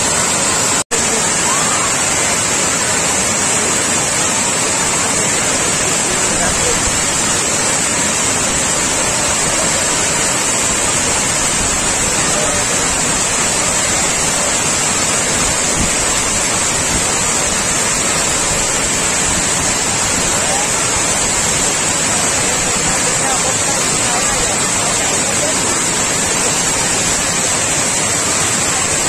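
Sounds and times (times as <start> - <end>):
water rushing over a dam: 0.0 - 29.0.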